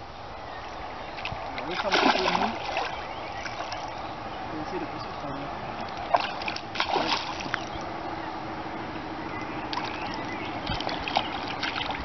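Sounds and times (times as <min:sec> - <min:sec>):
water sloshing: 0:01.2 - 0:12.0.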